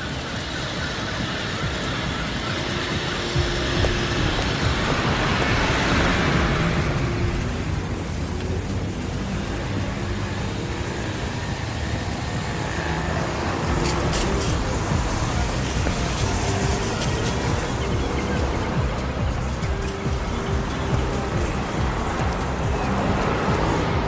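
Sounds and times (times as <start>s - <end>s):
car passing: 0.0s - 24.0s
road traffic: 0.0s - 24.0s.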